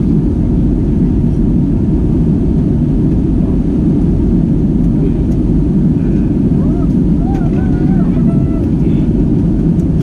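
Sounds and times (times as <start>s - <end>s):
airplane cabin engine noise: 0.0s - 10.0s.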